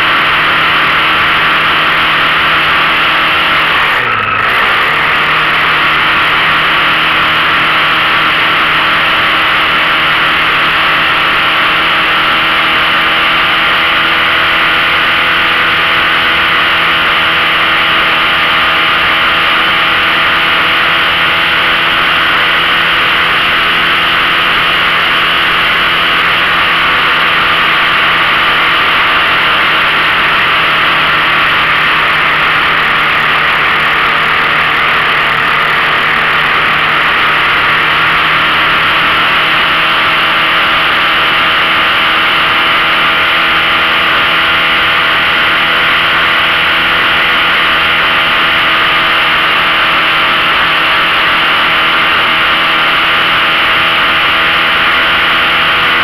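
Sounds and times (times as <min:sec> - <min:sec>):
loud steady rush: 0:00.0 - 0:56.0
outboard motor running: 0:00.0 - 0:56.0.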